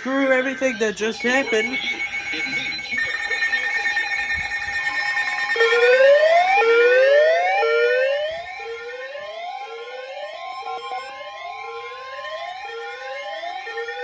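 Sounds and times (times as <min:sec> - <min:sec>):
electronic emergency alert alarm: 0:00.0 - 0:14.0
steady alarm tone: 0:00.0 - 0:14.0.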